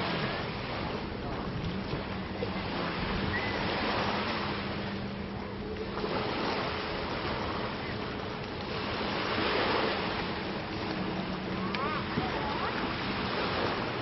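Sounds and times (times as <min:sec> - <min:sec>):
waves washing on sandy beach: 0:00.0 - 0:14.0.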